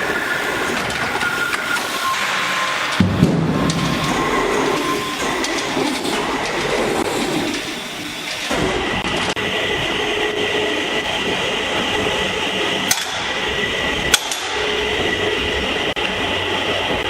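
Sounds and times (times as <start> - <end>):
faint machine whine: 0.0 - 17.0
production line machinery running: 0.0 - 17.0.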